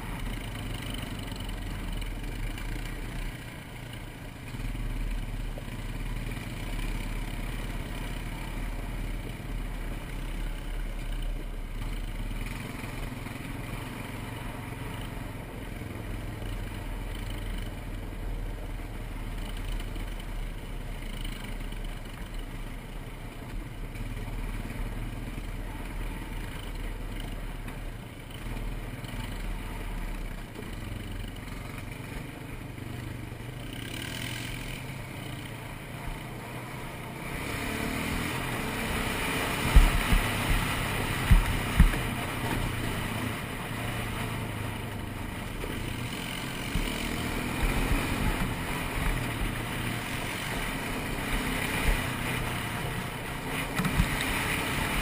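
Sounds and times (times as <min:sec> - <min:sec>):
atv engine droning: 0:00.0 - 0:55.0.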